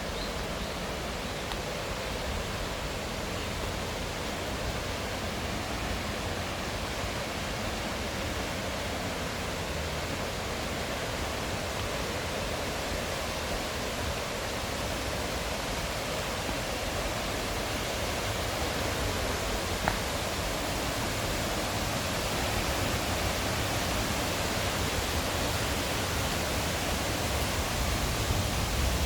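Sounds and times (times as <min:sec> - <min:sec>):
stream and waterfall rushing: 0:00.0 - 0:29.0.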